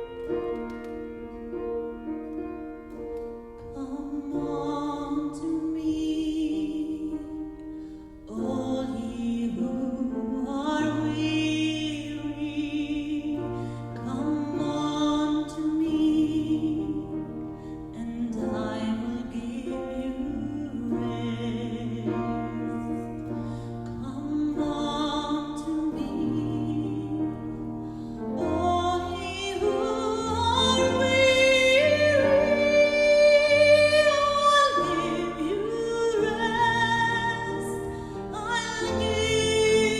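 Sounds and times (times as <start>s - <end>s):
instrumental accompaniment: 0.0s - 39.9s.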